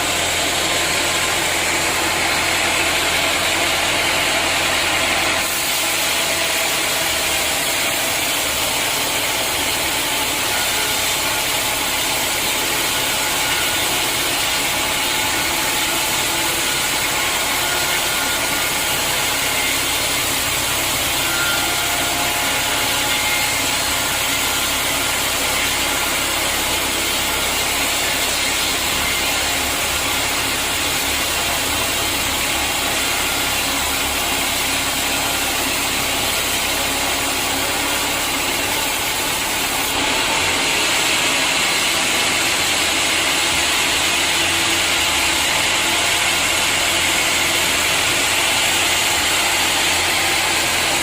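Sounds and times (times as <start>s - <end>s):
sawmill machinery running: 0.0s - 51.0s.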